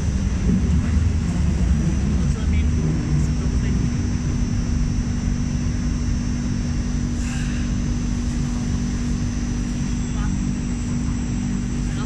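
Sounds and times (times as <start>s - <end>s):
constant hum: 0.0s - 12.0s
train cabin rumble: 0.0s - 12.0s.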